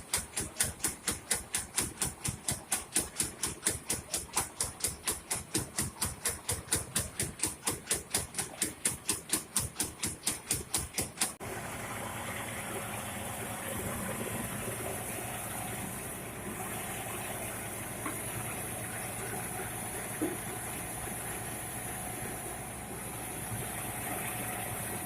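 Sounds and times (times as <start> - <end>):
rice-milling machine running: 0.0 - 25.0.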